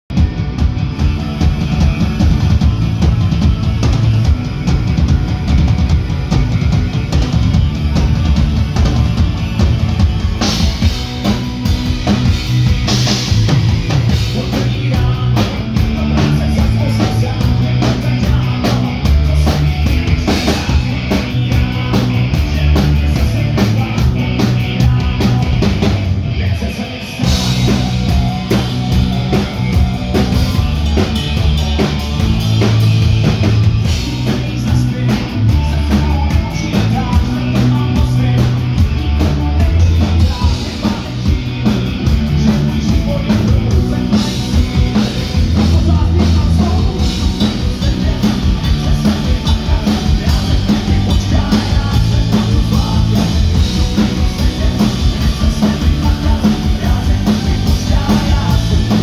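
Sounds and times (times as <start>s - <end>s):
rock band with drum kit: 0.0s - 59.0s.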